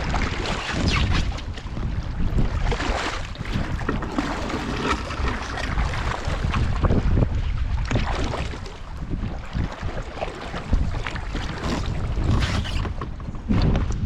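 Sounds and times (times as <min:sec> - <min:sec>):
paddle strokes splashing: 0:00.0 - 0:13.6
water slapping against raft: 0:00.0 - 0:14.0
wind buffeting microphone: 0:00.0 - 0:14.0.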